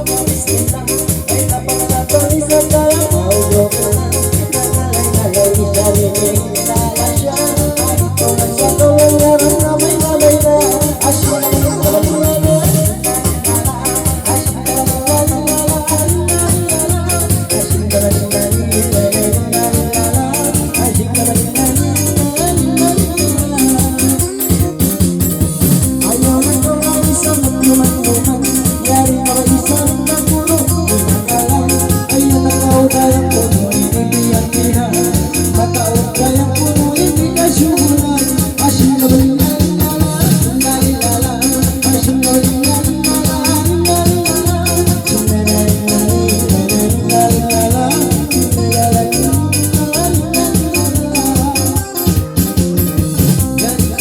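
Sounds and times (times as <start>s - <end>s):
organ-like electronic keyboard: 0.0s - 54.0s
steady beat: 0.0s - 54.0s.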